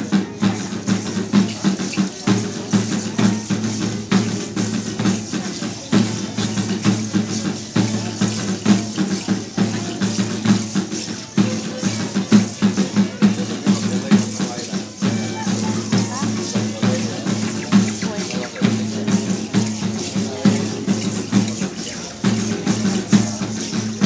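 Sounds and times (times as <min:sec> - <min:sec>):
drums and percussion beat: 0:00.0 - 0:24.0.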